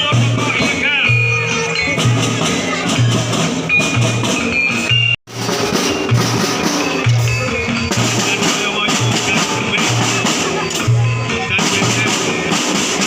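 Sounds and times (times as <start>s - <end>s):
music with steady drum beat: 0.0s - 13.0s.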